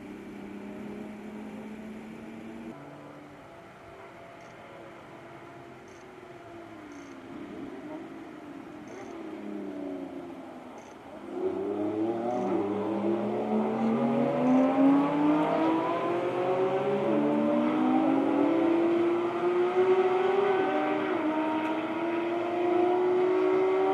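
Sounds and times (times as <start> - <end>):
car engine accelerating: 0.0 - 3.5, 7.3 - 23.9.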